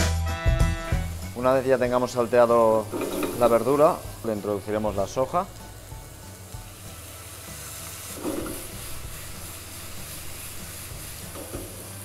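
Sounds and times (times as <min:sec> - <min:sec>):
sauce sizzling in frying pan: 0:00.4 - 0:12.0.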